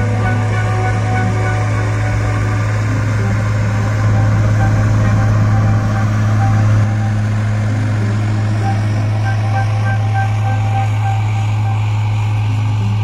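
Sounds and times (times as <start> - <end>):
diesel compactor engine humming: 0.0 - 13.0.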